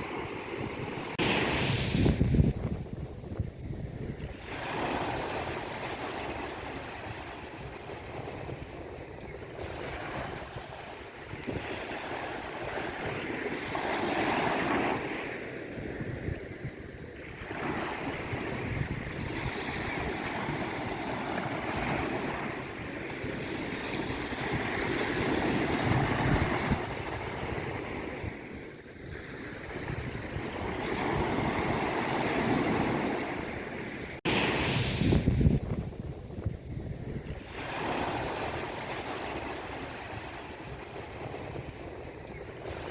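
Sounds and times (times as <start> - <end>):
sea waves washing: 0.0 - 42.9.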